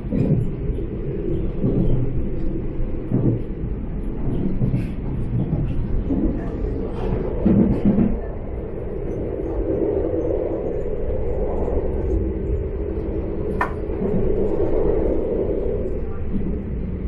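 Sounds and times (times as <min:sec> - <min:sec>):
diesel railcar rumbling: 0:00.0 - 0:17.0.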